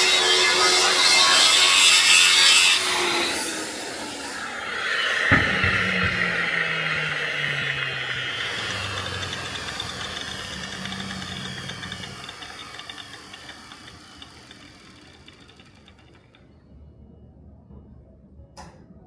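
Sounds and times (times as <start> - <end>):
power tool motor winding down: 0.0 - 16.5.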